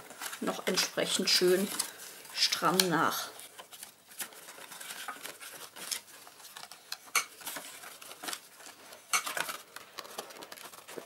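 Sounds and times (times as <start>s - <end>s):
cardstock rustling: 0.0s - 11.0s.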